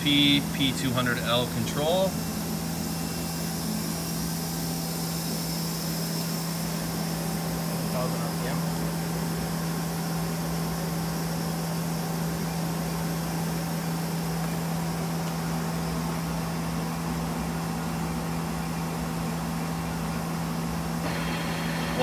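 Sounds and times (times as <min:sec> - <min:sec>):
lathe machine hum: 0:00.0 - 0:22.0.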